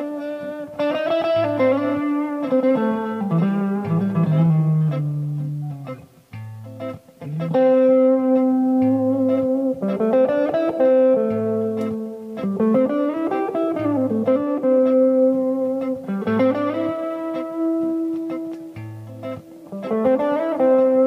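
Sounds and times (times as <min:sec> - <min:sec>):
clean electric guitar melody: 0:00.0 - 0:21.0.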